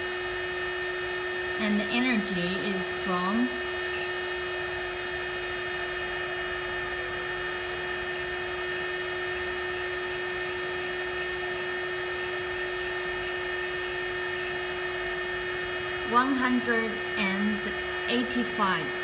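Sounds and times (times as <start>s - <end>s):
machine hum and whine: 0.0s - 19.0s.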